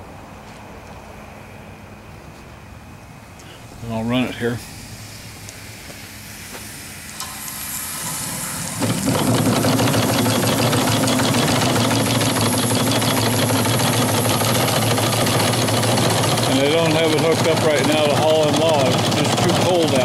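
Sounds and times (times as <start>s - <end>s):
steam engines running: 3.4s - 20.0s
steam hissing: 3.5s - 20.0s.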